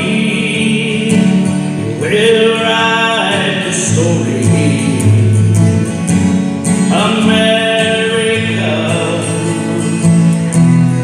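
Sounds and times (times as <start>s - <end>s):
patriotic song with instruments: 0.0s - 11.0s.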